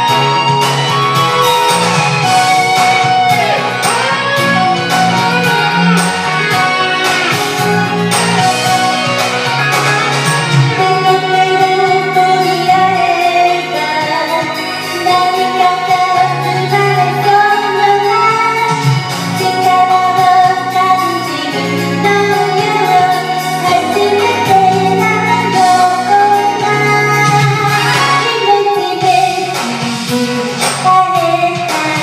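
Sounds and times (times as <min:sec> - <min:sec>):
karaoke backing track: 0:00.0 - 0:32.0
woman singing pop song: 0:00.0 - 0:32.0.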